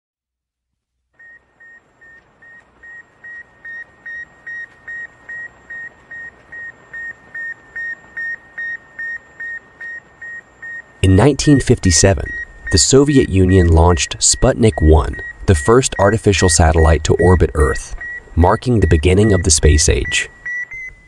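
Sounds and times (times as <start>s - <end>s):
faint hiss: 0.9s - 21.0s
short high radio beeps: 1.2s - 21.0s.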